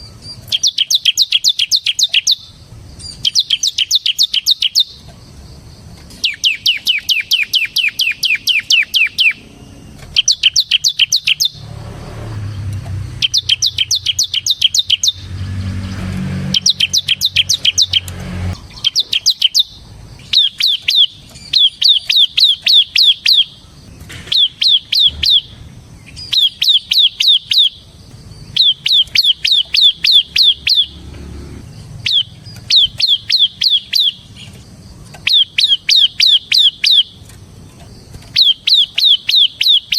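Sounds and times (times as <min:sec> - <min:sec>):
bird singing sharp high notes: 0:00.0 - 0:05.0, 0:06.2 - 0:34.5, 0:35.2 - 0:37.2, 0:38.3 - 0:39.9.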